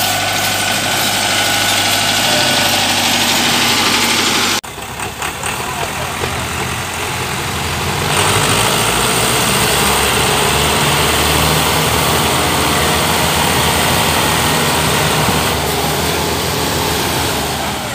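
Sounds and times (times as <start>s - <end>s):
diesel tractor engines under load: 0.0s - 17.9s.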